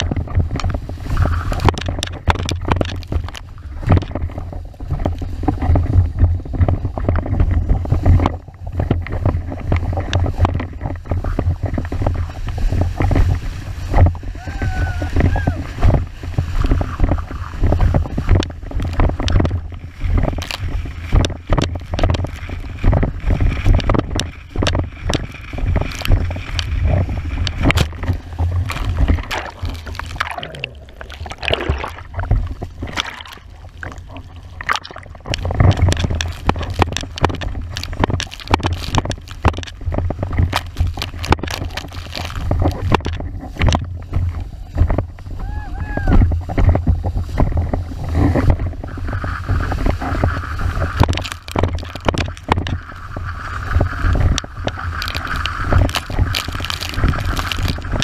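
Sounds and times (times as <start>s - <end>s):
muffled underwater gurgling: 0.0s - 58.0s
water hissing and slapping board: 0.0s - 58.0s
wind buffeting microphone: 0.0s - 58.0s.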